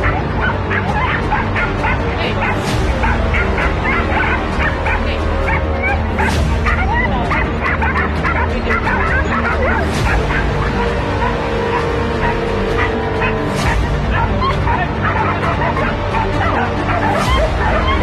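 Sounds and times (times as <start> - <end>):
dogs barking and yipping: 0.0 - 18.0.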